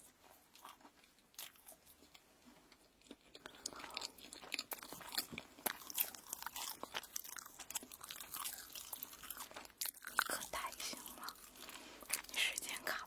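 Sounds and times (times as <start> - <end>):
chewing crunchy toast: 0.0 - 13.0.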